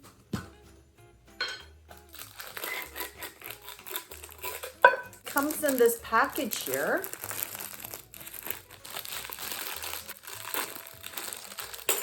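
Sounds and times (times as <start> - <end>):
packaging rustling and crackling: 2.0 - 12.0.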